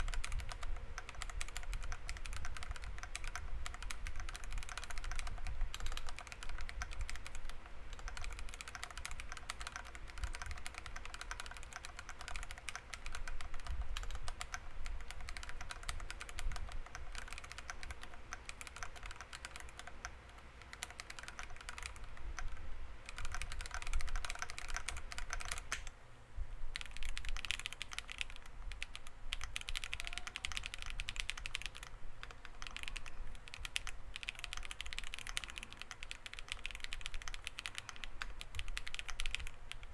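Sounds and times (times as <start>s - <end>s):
fast typing on mechanical keyboard: 0.0s - 25.9s, 26.7s - 39.9s.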